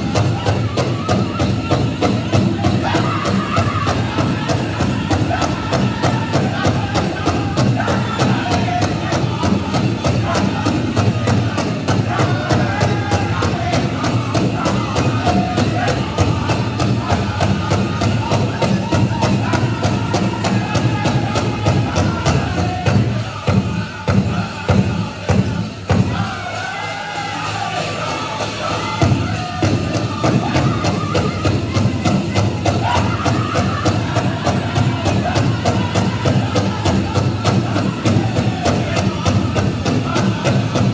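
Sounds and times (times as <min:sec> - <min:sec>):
big drum fast beat: 0:00.0 - 0:40.9
high-pitched group singing: 0:00.0 - 0:40.9.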